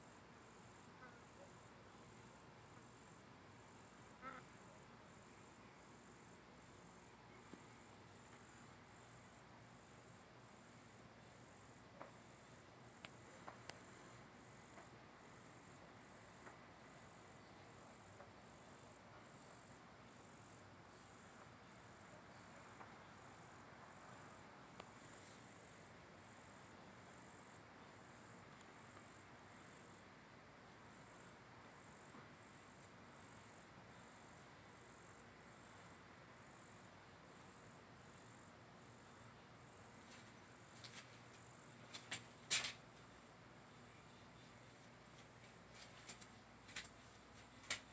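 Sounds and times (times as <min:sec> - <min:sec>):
night insects chirping: 0:00.0 - 0:47.9.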